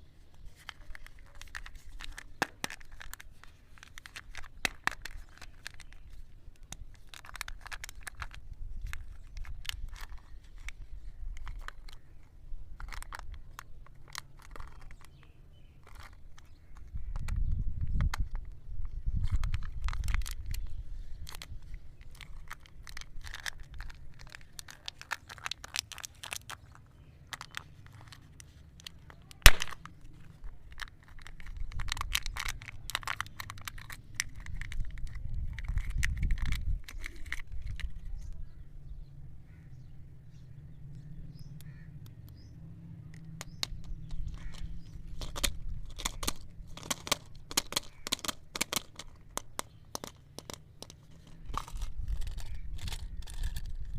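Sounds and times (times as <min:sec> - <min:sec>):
candy wrappers crackling: 0:00.4 - 0:38.3, 0:43.2 - 0:53.9.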